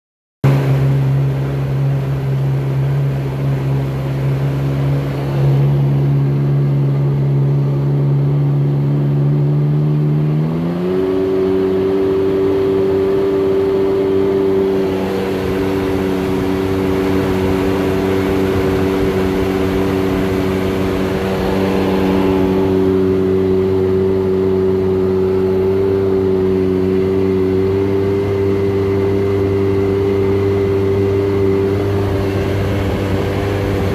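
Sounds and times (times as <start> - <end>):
jet boat engine running: 0.4 - 33.9.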